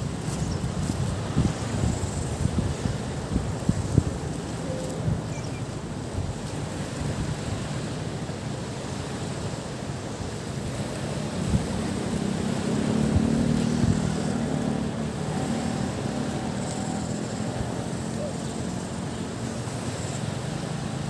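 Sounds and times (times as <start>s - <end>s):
waves washing on beach: 0.0s - 21.0s
wind on microphone: 0.0s - 21.0s.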